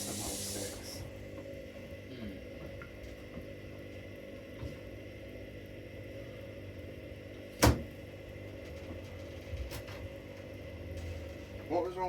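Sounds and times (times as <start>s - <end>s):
washing machines humming: 0.0s - 12.0s.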